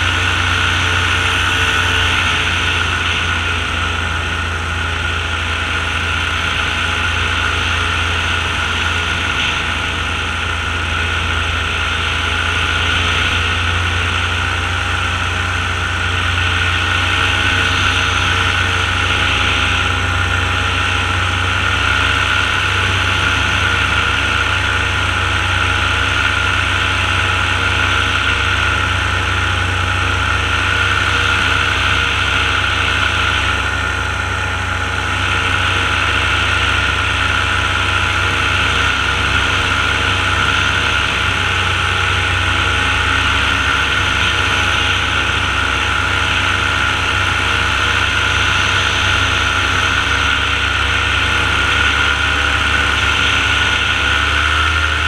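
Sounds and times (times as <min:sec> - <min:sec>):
paramotor engine drone: 0:00.0 - 0:55.0.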